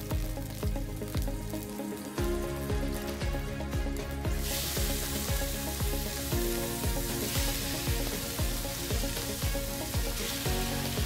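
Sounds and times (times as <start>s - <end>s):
background music with steady beat: 0.0s - 11.0s
meat sizzling in a wok: 0.0s - 11.0s.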